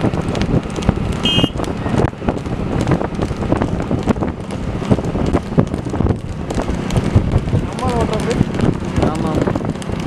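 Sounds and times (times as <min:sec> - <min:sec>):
motorcycle engines running: 0:00.0 - 0:10.0
wind buffeting microphone: 0:00.0 - 0:10.0.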